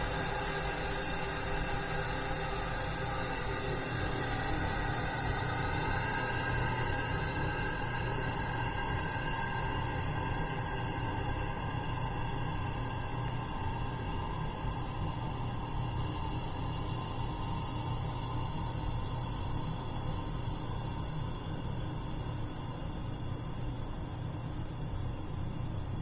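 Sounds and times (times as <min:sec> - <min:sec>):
high-pitched whine: 0:00.0 - 0:26.0
hvac low hum: 0:00.0 - 0:26.0.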